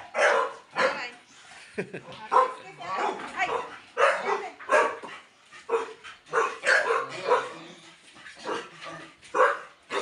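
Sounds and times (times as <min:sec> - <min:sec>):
dogs barking: 0:00.0 - 0:01.1, 0:02.3 - 0:07.8, 0:08.4 - 0:10.0.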